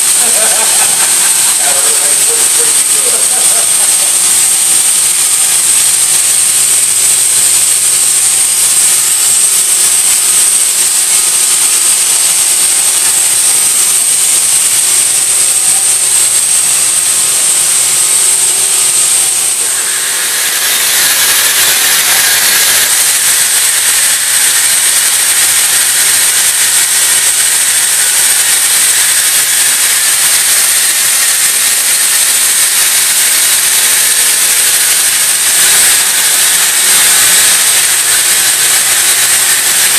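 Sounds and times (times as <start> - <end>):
machine mechanical hiss: 0.0 - 39.9
thin high whine: 0.0 - 39.9.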